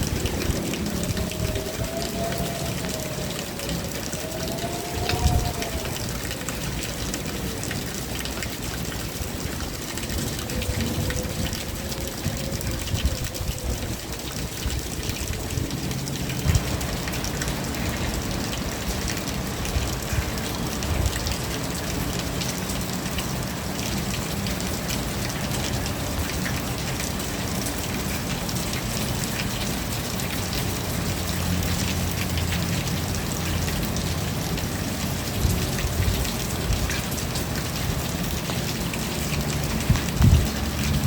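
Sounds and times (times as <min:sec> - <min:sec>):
rain pattering: 0:00.0 - 0:41.0.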